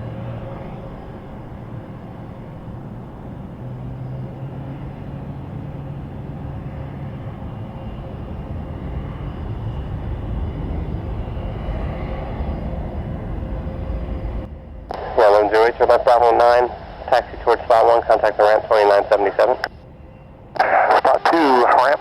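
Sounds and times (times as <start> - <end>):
jet engines rumbling and whining: 0.0 - 22.0.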